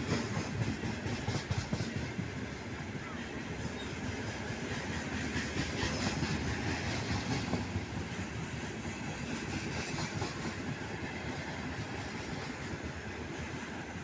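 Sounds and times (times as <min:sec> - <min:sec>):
train wheels rumbling and clattering: 0:00.0 - 0:14.0.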